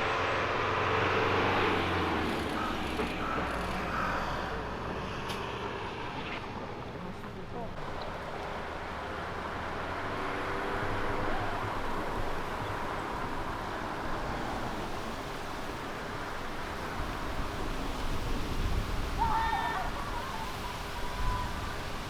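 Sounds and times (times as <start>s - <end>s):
car driving road noise: 0.0s - 22.0s.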